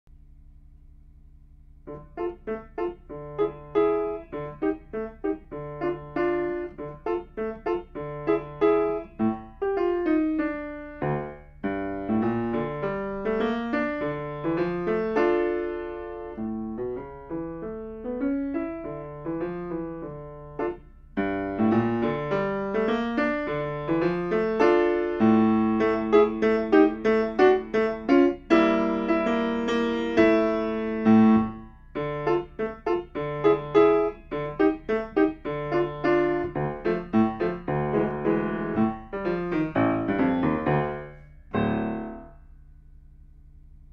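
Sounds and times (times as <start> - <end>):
solo grand piano: 0.5 - 43.9.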